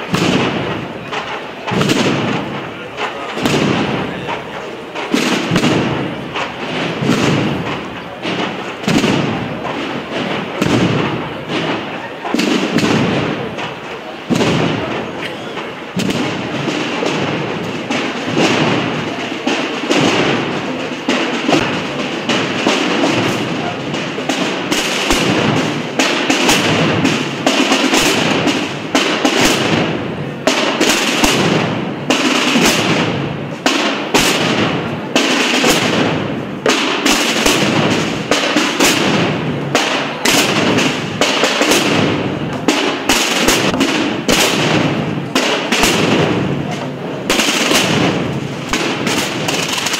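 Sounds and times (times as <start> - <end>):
massed drums beating: 0.0 - 49.9.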